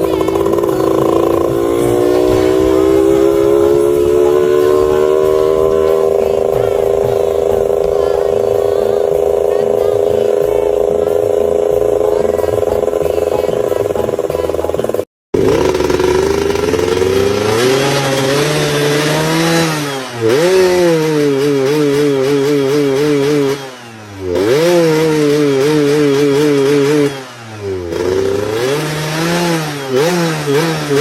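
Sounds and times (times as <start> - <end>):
motorcycle raspy exhaust: 0.0 - 31.0
motorcycle throttle blips: 0.0 - 31.0.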